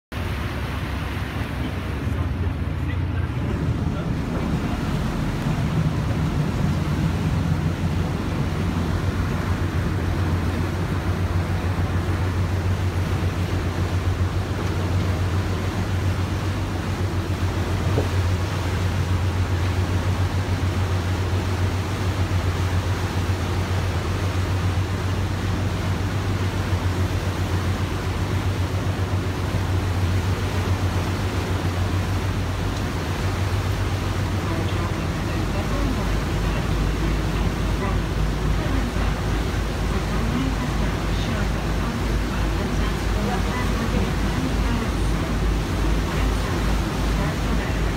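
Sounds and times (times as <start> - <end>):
water rushing along hull: 0.0 - 47.9
motor boat engine droning: 0.1 - 47.9.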